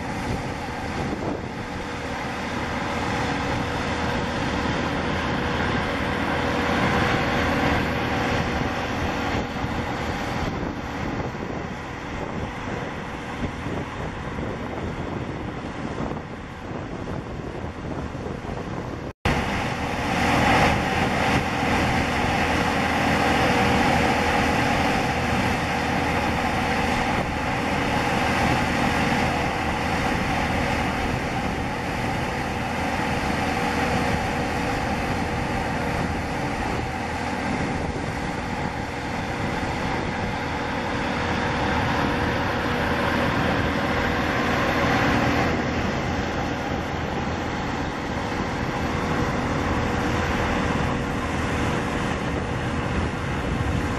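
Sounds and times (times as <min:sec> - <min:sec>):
jet engines whining: 0:00.0 - 0:53.9.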